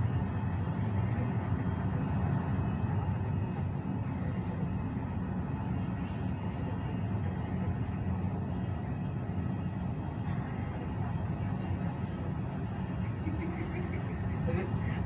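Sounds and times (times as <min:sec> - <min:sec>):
airport apron rumble: 0:00.0 - 0:15.0.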